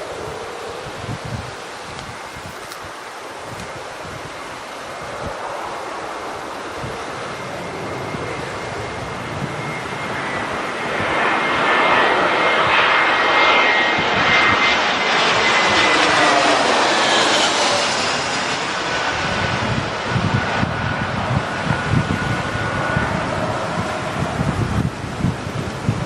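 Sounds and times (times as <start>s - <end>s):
jet airliner passing overhead: 0.0s - 26.0s
thin high engine whine: 0.0s - 26.0s.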